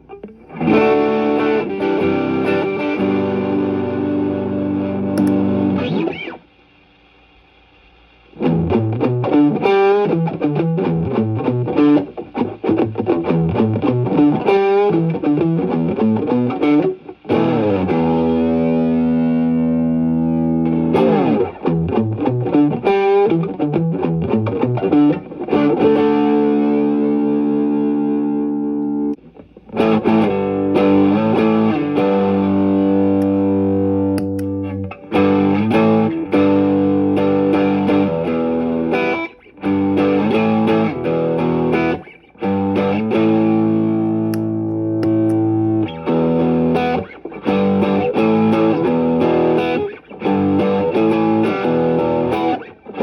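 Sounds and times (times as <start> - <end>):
distorted electric guitar: 0.0 - 7.3, 8.2 - 53.0.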